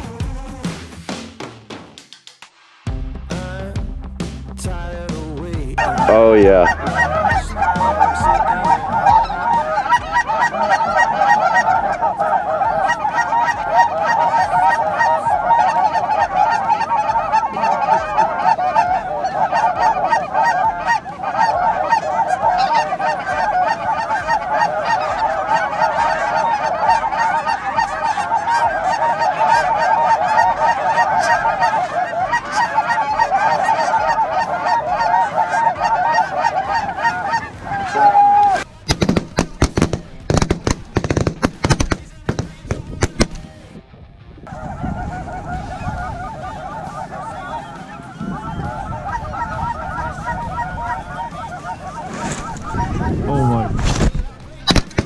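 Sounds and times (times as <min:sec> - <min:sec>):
geese honking: 0:05.8 - 0:43.6, 0:44.4 - 0:55.0.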